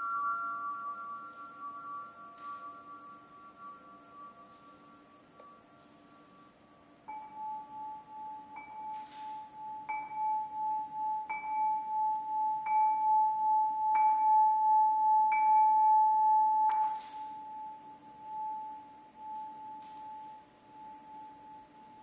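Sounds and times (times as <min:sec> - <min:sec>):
crystal harp rods ringing: 0:00.0 - 0:22.0.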